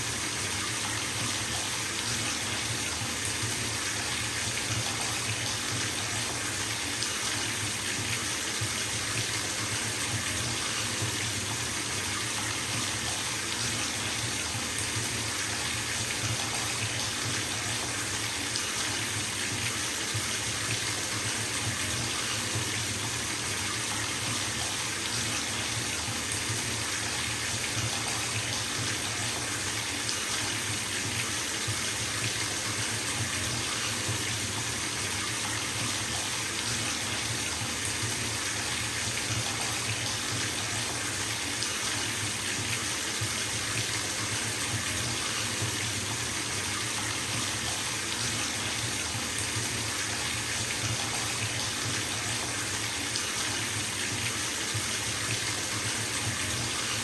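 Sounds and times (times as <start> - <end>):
tap water filling bathtub: 0.0 - 57.0.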